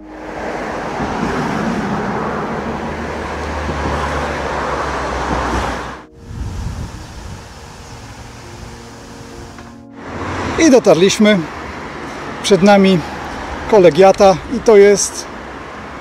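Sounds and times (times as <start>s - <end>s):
passing vehicles rumbling: 0.0s - 16.0s.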